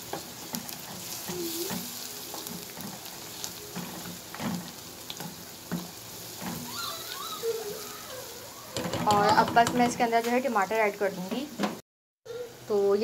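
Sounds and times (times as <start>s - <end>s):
onions sizzling in hot oil: 0.0s - 11.7s.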